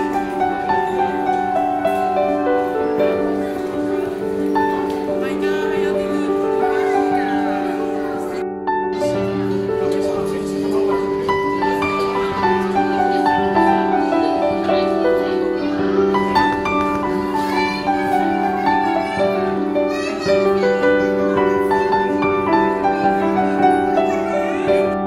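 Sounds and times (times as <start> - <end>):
instrumental music: 0.0 - 25.0.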